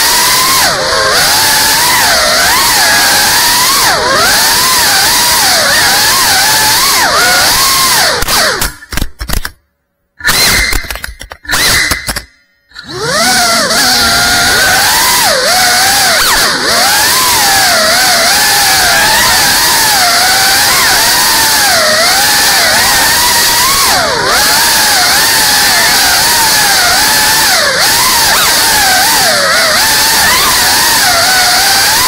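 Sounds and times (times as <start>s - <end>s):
drone motors whining: 0.0s - 9.6s, 10.2s - 32.0s.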